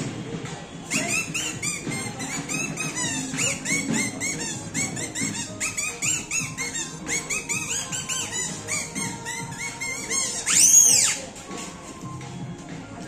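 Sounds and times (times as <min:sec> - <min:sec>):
low music: 0:00.0 - 0:13.0.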